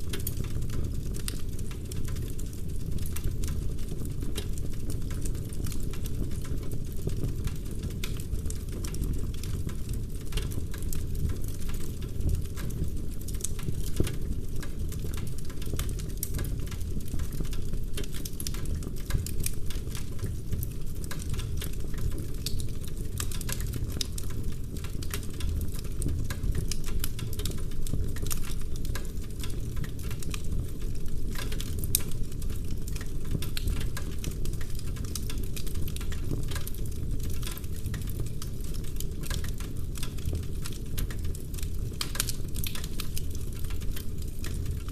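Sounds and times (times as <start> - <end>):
low rumble of burning logs: 0.0 - 44.9
wood fire crackling: 0.0 - 44.9.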